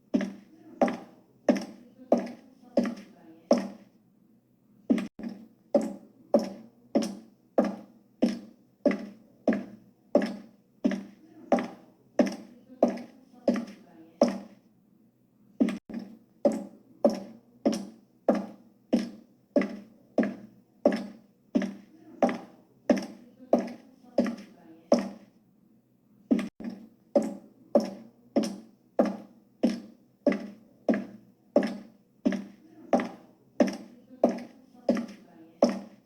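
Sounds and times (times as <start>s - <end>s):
high heel footsteps clicking: 0.1s - 3.9s, 4.9s - 14.6s, 15.6s - 25.3s, 26.3s - 36.0s.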